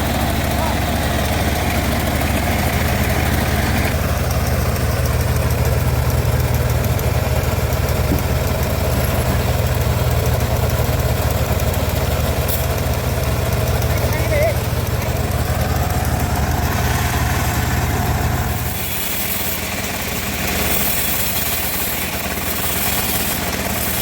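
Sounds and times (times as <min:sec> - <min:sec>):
sawmill engine droning: 0:00.0 - 0:24.0.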